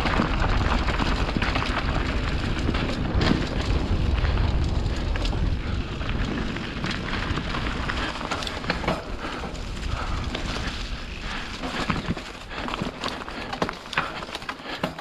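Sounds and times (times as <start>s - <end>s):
wind rumbling on microphone: 0.0s - 14.5s
bike rattling: 0.0s - 15.0s
tyres crunching over stones: 0.0s - 15.0s.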